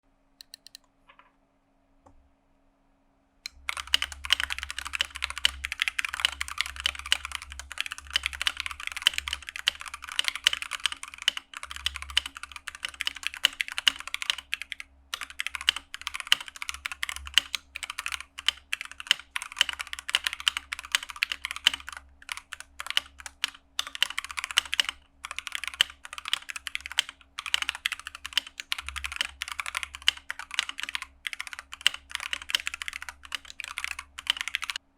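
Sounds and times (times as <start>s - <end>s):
mechanical keyboard typing: 0.4s - 0.9s, 3.5s - 34.8s.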